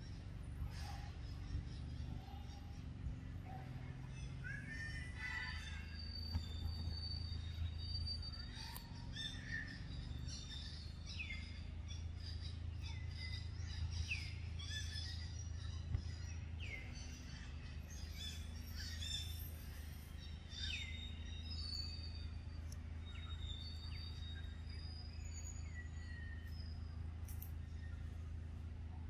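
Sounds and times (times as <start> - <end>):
birds chirping: 0.0 - 29.0
low background rumble: 0.0 - 29.0.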